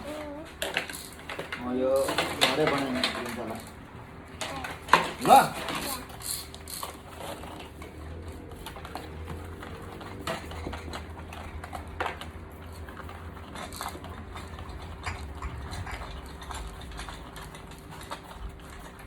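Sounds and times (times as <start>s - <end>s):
steady low hum: 0.0s - 19.0s
plastic toy pieces clattering: 0.1s - 3.8s, 4.4s - 19.0s.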